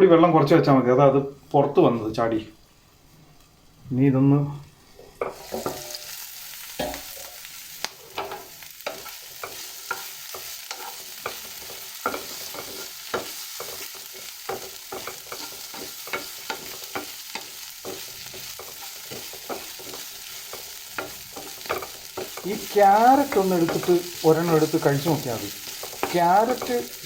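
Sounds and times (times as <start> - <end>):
steady sizzling hiss: 0.0 - 27.0
spatula scraping vegetables in pan: 4.8 - 27.0.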